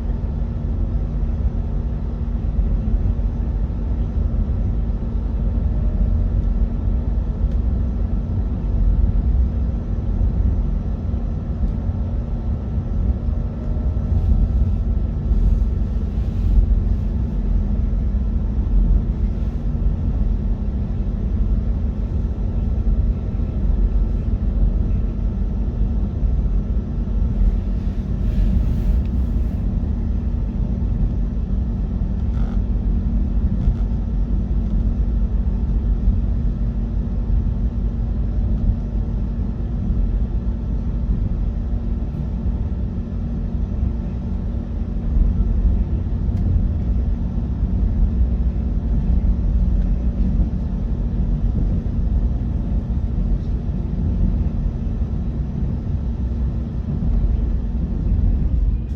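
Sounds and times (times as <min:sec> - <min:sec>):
electric train rumble: 0:00.0 - 0:58.9
faint steady hum: 0:00.0 - 0:58.9.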